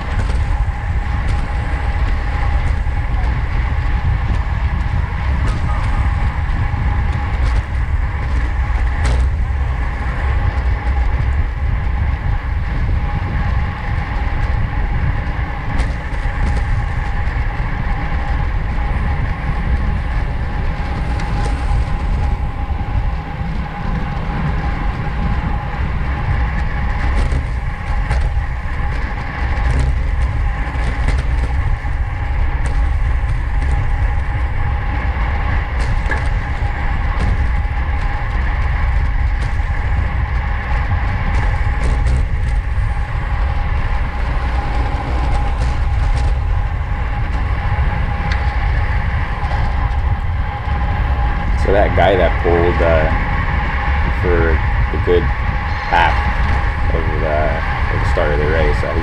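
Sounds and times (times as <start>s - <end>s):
faint drivetrain whine: 0.0s - 59.0s
tyres rumbling on road: 0.0s - 59.0s
wind buffeting microphone: 0.0s - 59.0s.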